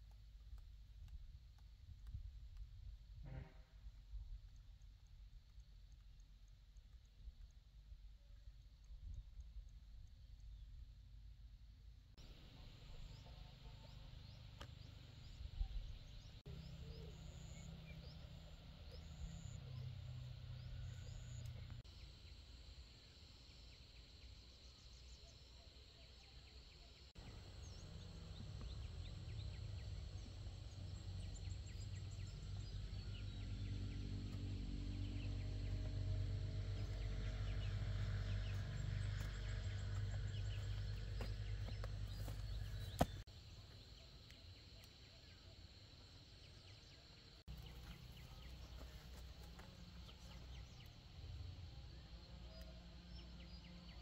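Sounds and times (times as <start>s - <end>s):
insect hum: 0.0s - 54.0s.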